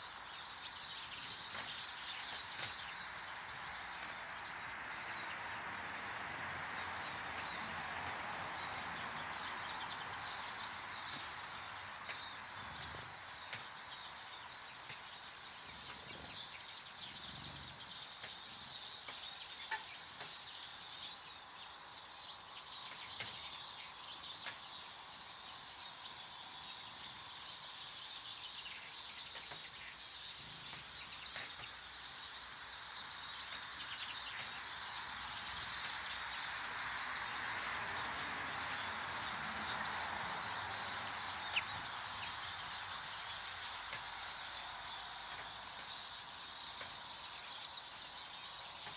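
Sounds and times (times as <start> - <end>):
garden birds chirping: 0.0 - 48.9.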